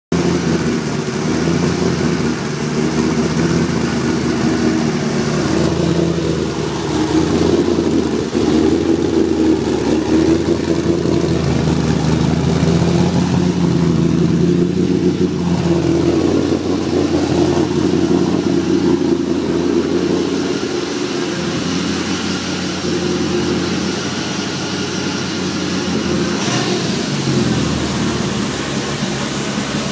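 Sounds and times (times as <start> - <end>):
car engine idling and revving: 0.1 - 29.9.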